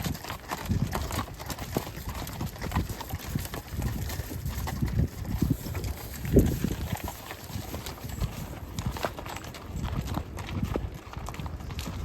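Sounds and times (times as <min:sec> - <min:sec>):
hooves clopping on dirt trail: 0:00.0 - 0:12.0.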